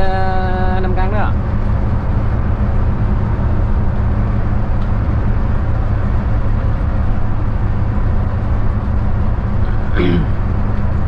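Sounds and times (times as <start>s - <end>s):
bus engine hum: 0.0s - 11.0s
road and tyre noise: 0.0s - 11.0s.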